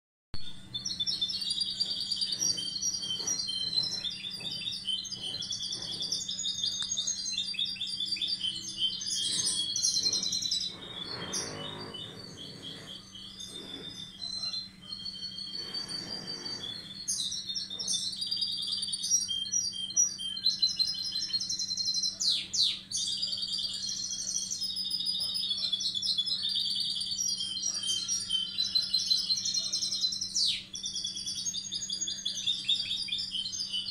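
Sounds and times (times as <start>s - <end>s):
finch singing twittering song: 0.4s - 33.9s.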